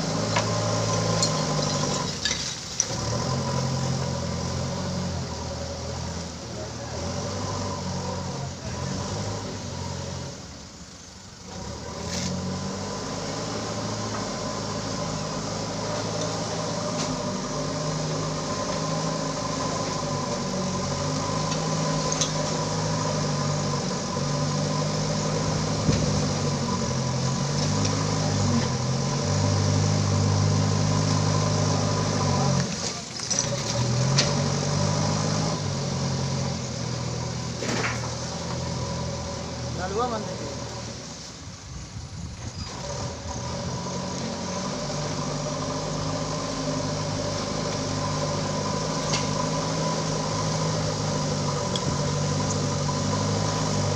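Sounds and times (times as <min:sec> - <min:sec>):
backhoe diesel engine digging: 0:00.0 - 0:53.9.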